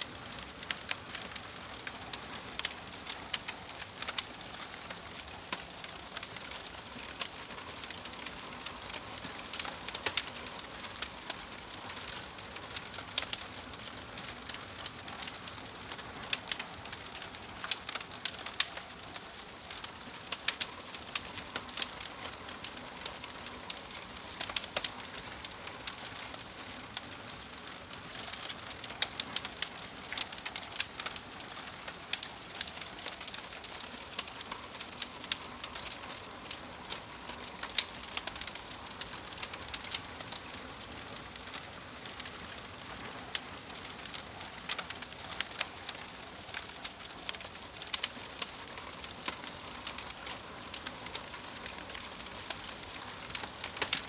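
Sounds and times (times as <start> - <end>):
fire crackling: 0.0 - 54.0.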